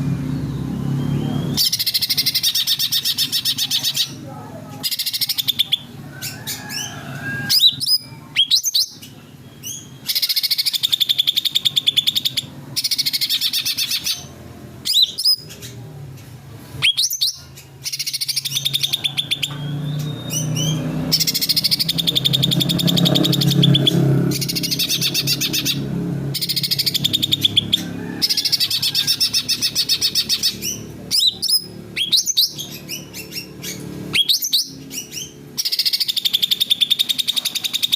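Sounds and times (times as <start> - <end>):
bird singing trilled phrases: 0.2 - 15.9, 16.8 - 37.9.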